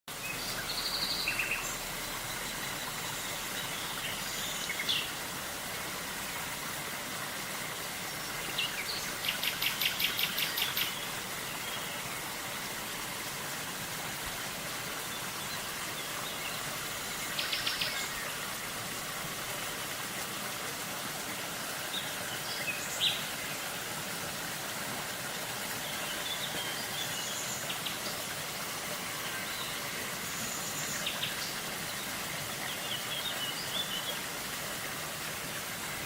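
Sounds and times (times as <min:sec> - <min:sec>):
river water rushing: 0:00.1 - 0:36.0.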